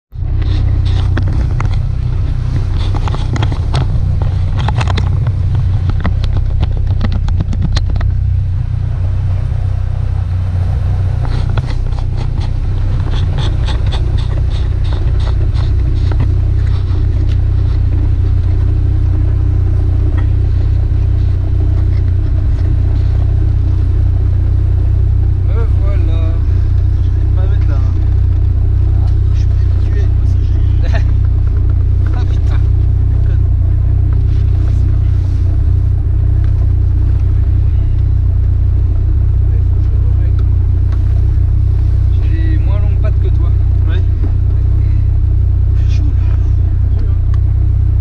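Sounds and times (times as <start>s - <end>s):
car engine idling: 0.1s - 48.0s.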